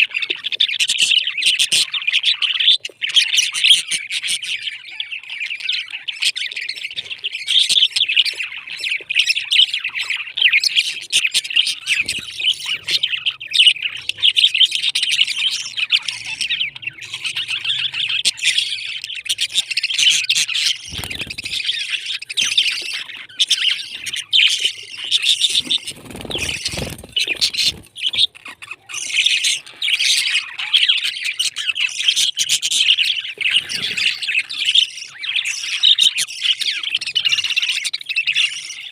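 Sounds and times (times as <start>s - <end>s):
parrots chirping and squawking: 0.0s - 38.9s.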